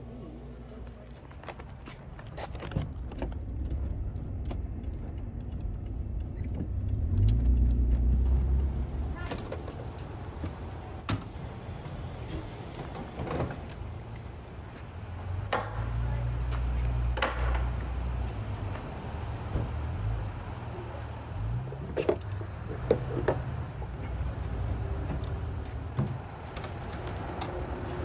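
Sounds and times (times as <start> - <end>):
pickup engine and road noise: 0.0 - 28.0.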